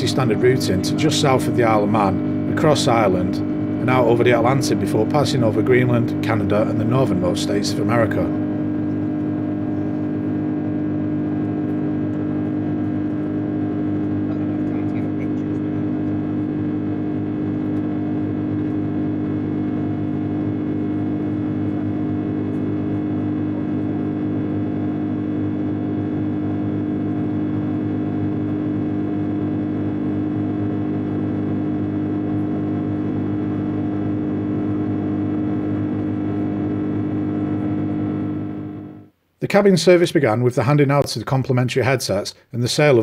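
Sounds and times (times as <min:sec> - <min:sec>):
jet engine drone in cabin: 0:00.0 - 0:39.1.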